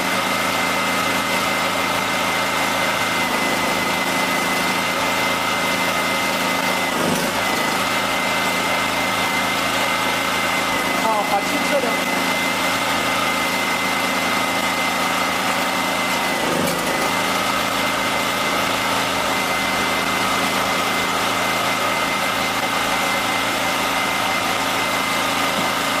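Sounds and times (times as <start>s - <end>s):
generator engine running: 0.0s - 26.0s.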